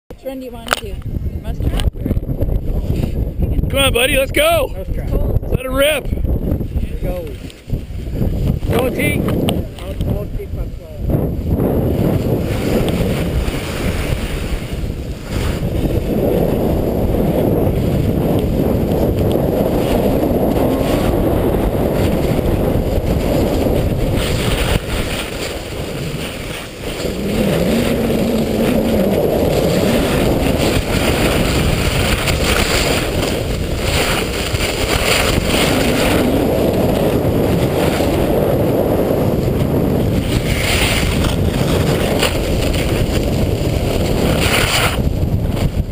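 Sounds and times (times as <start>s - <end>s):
wind rushing over microphone: 0.1s - 45.9s
sliding on packed snow: 6.9s - 45.9s.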